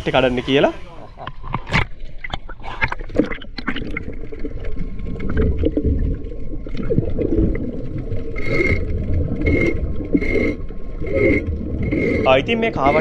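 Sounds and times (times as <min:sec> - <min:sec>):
muffled underwater rumble: 0:00.4 - 0:13.0
barnacles being scraped underwater: 0:01.0 - 0:13.0.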